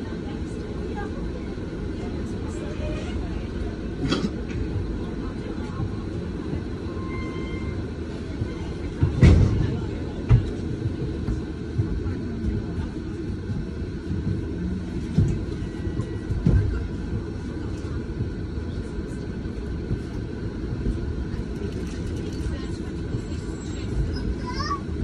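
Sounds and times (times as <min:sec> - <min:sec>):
bus interior rumble: 0:00.0 - 0:25.0.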